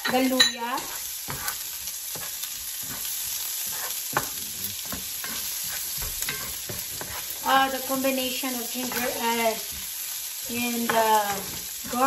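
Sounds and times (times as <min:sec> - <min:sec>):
spatula scraping a pan: 0:00.0 - 0:08.1, 0:08.7 - 0:10.1, 0:10.7 - 0:12.0
garlic sizzling in hot oil: 0:00.0 - 0:12.0.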